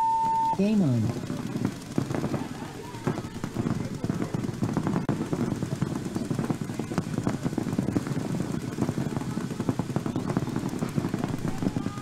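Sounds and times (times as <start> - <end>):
paintball markers firing: 0.6 - 12.0.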